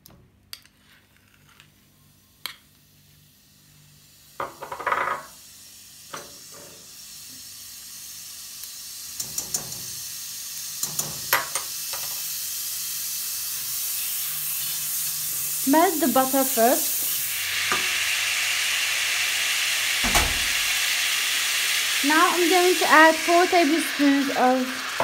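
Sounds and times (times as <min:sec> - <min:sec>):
butter sizzling in a pan: 0:00.8 - 0:25.0.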